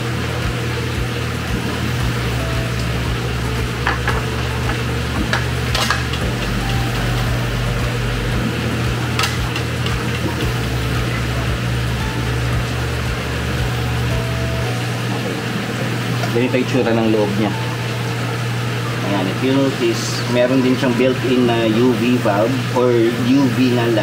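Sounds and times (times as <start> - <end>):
air pump humming: 0.0 - 24.0.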